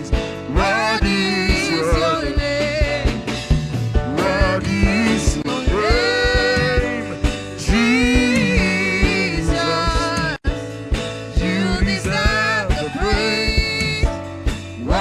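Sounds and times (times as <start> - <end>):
person singing: 0.0 - 3.3, 4.2 - 10.6, 11.4 - 14.2
gospel band with steady beat: 0.0 - 15.0.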